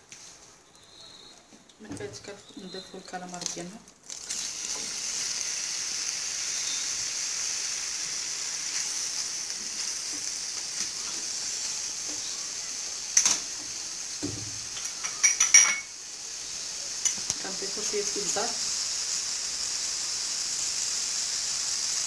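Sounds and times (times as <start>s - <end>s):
squid sizzling in a frying pan: 2.0s - 22.0s.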